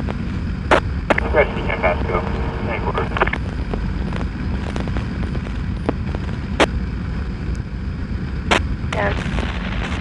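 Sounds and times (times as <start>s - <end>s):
wind noise: 0.0s - 10.0s.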